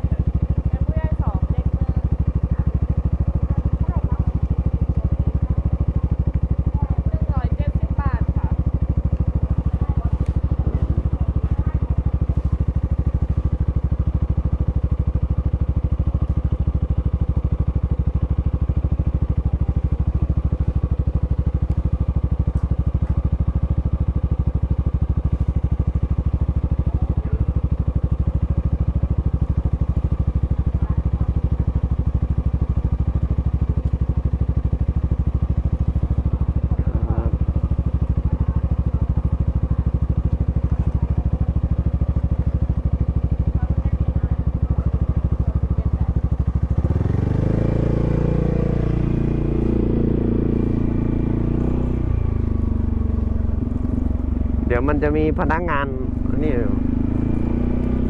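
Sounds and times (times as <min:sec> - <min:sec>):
scooter engine running: 0:00.0 - 0:58.0.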